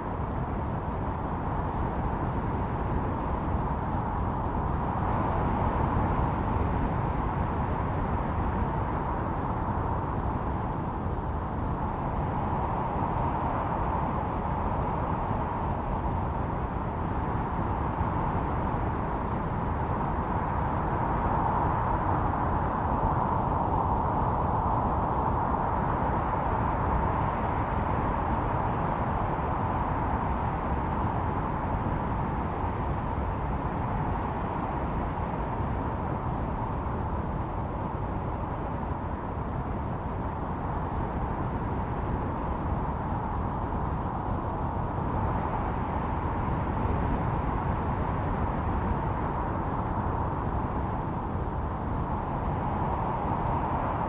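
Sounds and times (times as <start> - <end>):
wind howling and whistling: 0.0 - 54.0.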